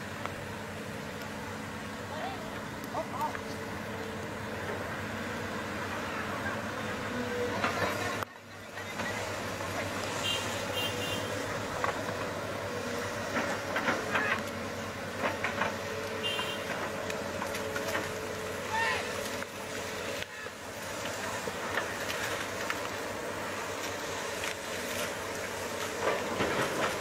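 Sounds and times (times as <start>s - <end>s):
bulldozer engine running: 0.0s - 27.0s.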